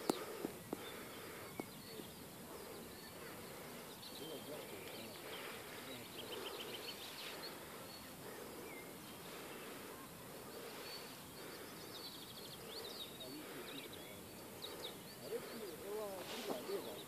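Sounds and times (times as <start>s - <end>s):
songbirds singing: 0.0s - 17.0s
steady background hiss: 0.0s - 17.0s.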